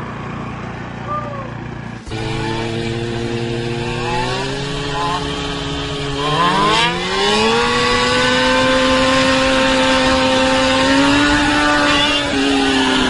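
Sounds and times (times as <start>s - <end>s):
scooter engine pulling away: 0.0s - 13.0s.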